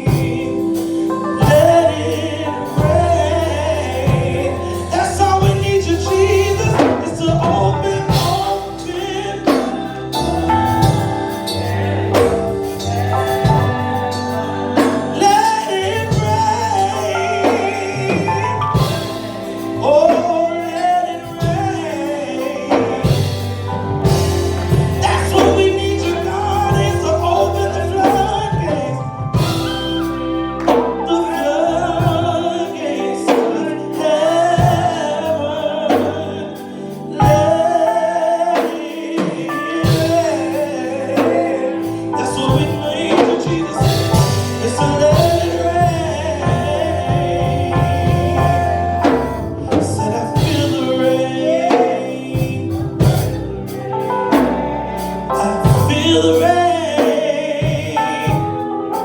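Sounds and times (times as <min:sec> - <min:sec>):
steady drum beat: 0:00.0 - 0:31.4, 0:38.6 - 0:58.7
organ chords: 0:00.0 - 0:59.0
voices singing gospel: 0:00.0 - 0:59.0.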